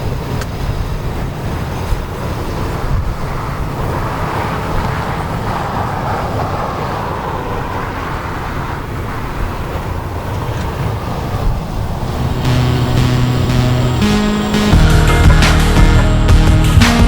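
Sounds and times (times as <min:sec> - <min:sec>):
aircraft engine rumble: 0:00.0 - 0:14.2.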